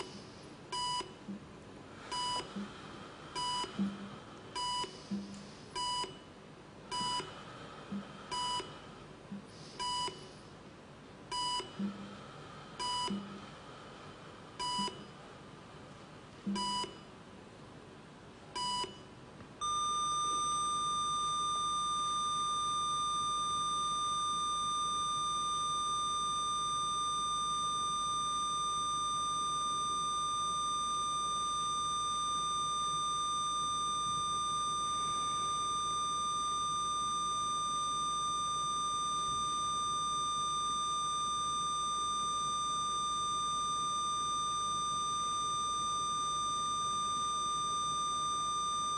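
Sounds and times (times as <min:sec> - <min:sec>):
heart monitor beeping: 0:00.7 - 0:01.4, 0:02.1 - 0:06.3, 0:06.9 - 0:10.3, 0:11.3 - 0:12.1, 0:12.8 - 0:13.4, 0:14.6 - 0:15.2, 0:16.5 - 0:17.1, 0:18.6 - 0:48.9
heart monitor flatline tone: 0:00.7 - 0:01.4, 0:02.1 - 0:02.7, 0:03.4 - 0:06.2, 0:06.9 - 0:10.2, 0:12.8 - 0:13.4, 0:14.6 - 0:15.1, 0:16.5 - 0:17.0, 0:18.6 - 0:48.9.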